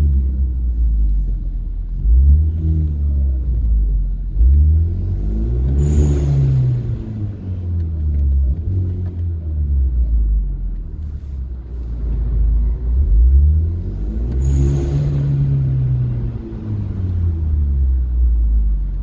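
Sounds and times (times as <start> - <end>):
car engine and exhaust revving: 0.0 - 19.0.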